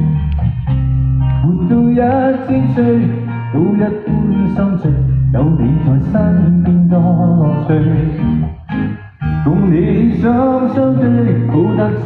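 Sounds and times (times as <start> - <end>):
live pop band with guitar: 0.0 - 12.0.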